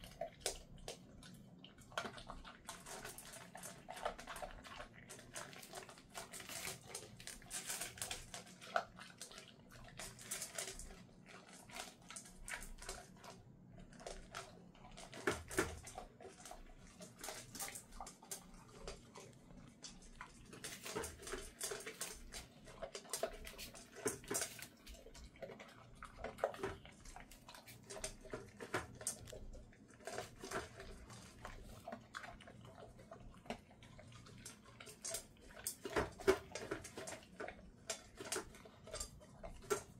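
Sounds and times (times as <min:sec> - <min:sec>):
dog crunching kibble in metal bowl: 0:00.0 - 0:39.9.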